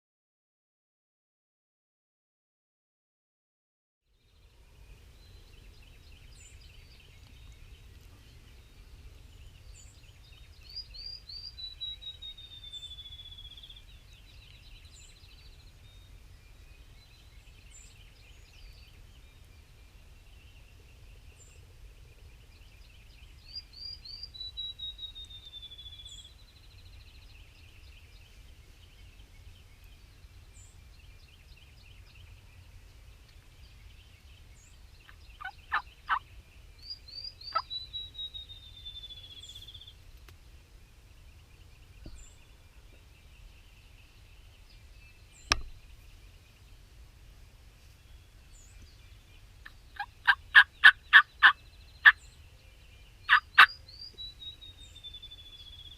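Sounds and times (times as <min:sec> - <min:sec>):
songbird singing: 0:04.1 - 0:55.9
faint bird chatter: 0:04.2 - 0:46.9, 0:47.8 - 0:55.9.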